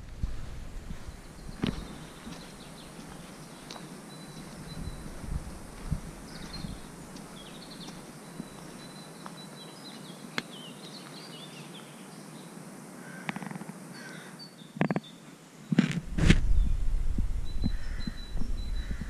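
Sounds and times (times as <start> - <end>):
outdoor background hiss: 0.0 - 19.0
small birds chirping: 0.8 - 19.0.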